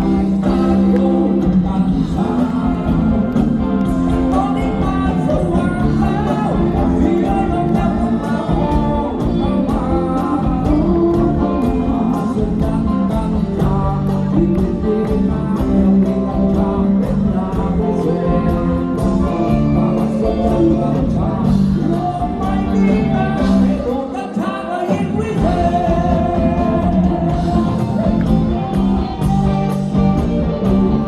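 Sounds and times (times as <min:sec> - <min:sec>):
steady drum beat: 0:00.0 - 0:24.0, 0:25.0 - 0:31.0
guitars: 0:00.0 - 0:31.0
person singing: 0:00.0 - 0:31.0.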